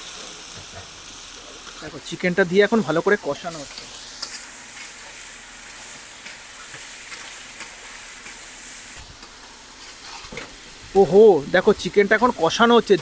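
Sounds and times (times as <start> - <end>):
spatula scraping wok: 0.0 - 11.1
chicken sizzling in oil: 0.0 - 13.0.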